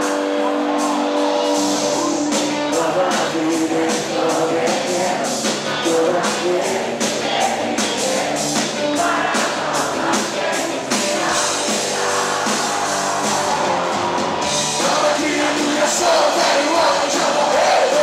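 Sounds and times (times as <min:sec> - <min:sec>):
person singing: 0:00.0 - 0:12.7, 0:14.7 - 0:18.0
drums keeping steady beat: 0:00.0 - 0:18.0
live band playing pop-rock: 0:00.0 - 0:18.0.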